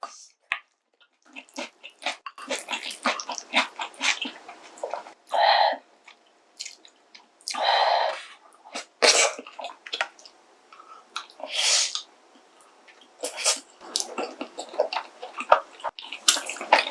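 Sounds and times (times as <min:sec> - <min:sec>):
faint chewing clicks: 0:00.5 - 0:05.4, 0:06.0 - 0:07.7, 0:08.4 - 0:16.9.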